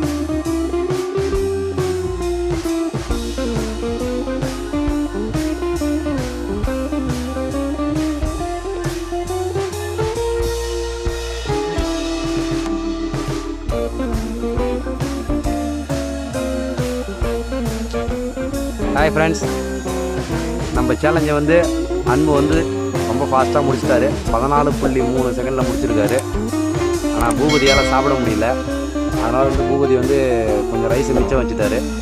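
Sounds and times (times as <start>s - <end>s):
bluesy guitar instrumental: 0.0s - 32.0s.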